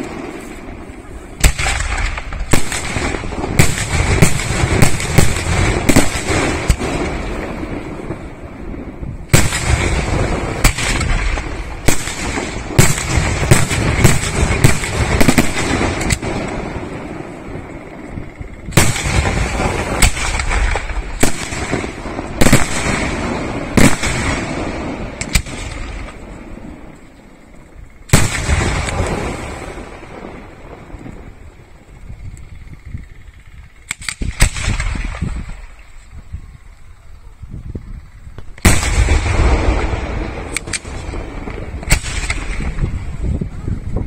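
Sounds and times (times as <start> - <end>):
firework bangs with echo: 0.0 - 27.0, 28.0 - 31.6, 38.6 - 43.6.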